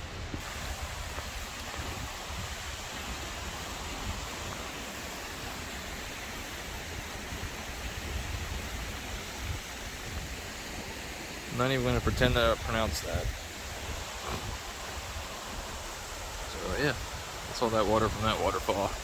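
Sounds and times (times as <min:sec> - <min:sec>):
wind rumble on microphone: 0:00.0 - 0:10.9, 0:11.5 - 0:19.0
stream running: 0:00.0 - 0:19.0
waterfall rushing: 0:00.0 - 0:19.0.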